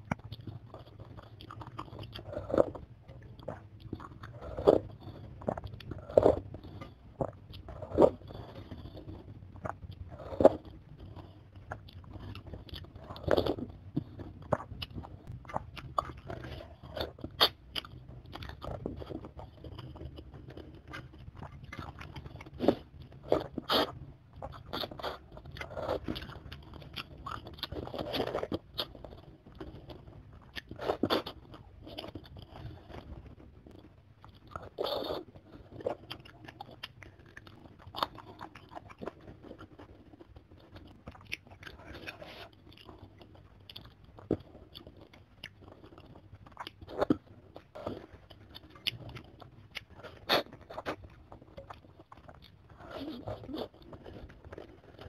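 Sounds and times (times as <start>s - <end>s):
biting and chewing: 0.0s - 55.0s.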